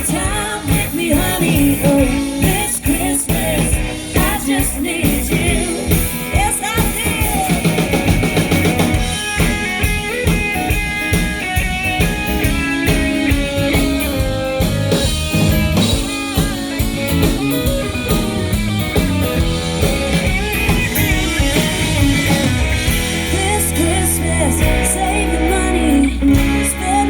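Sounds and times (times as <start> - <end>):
bass: 0.0 - 27.0
drum kit: 0.0 - 27.0
electric guitar lines: 0.0 - 27.0.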